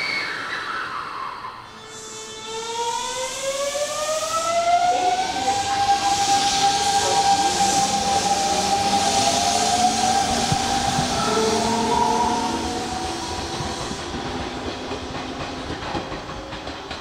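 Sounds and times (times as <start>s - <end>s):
train running noise: 0.0s - 17.0s
electric train motors whining: 1.6s - 16.8s.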